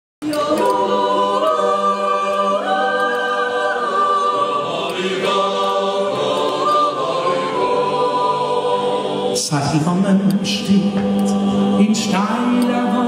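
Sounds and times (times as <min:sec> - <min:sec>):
choir yodeling a cappella: 0:00.2 - 0:13.0.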